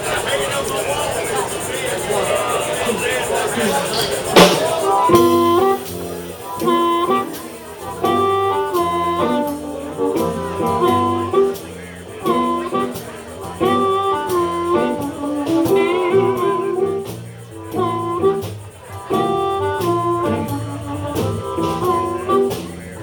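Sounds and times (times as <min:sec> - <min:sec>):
blues band playing: 0:00.0 - 0:23.0.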